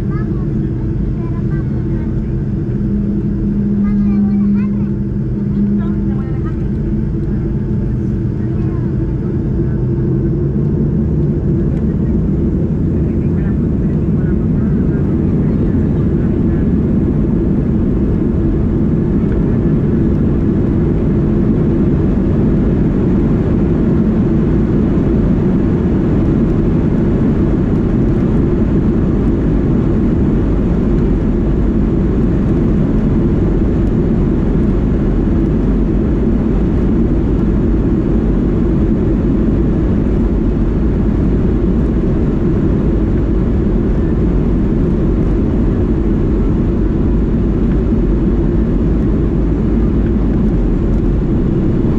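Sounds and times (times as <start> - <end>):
jet engines rumbling in cabin: 0.0 - 51.9.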